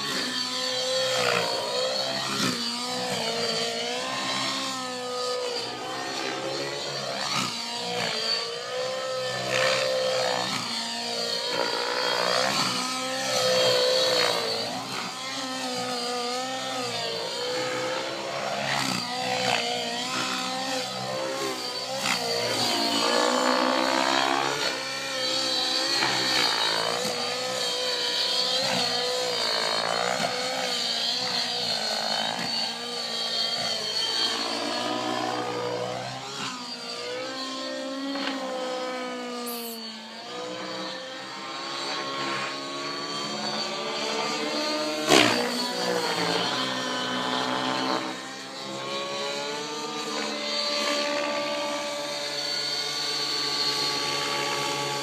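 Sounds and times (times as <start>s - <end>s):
model helicopter engine and rotors: 0.0s - 55.0s.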